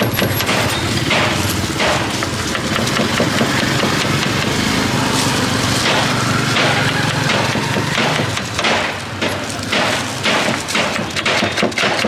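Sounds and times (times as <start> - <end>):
engine humming: 0.0 - 11.8.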